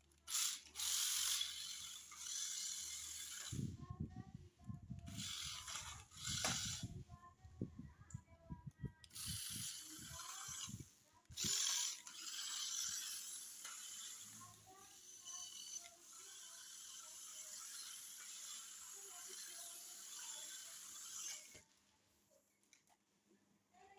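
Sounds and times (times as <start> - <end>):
toy car motor whirring: 0.0 - 4.2, 4.8 - 7.8, 8.9 - 21.6.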